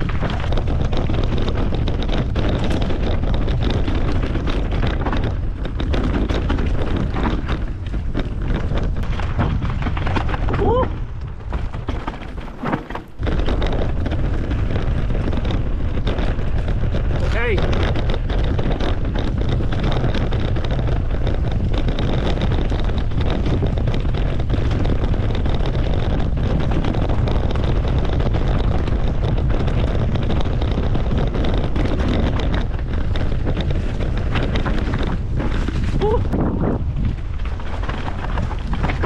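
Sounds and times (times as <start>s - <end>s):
bike knocks and rattles: 0.0s - 39.0s
tyres rolling over leaves and stones: 0.0s - 39.0s
wind buffeting microphone: 0.0s - 39.0s.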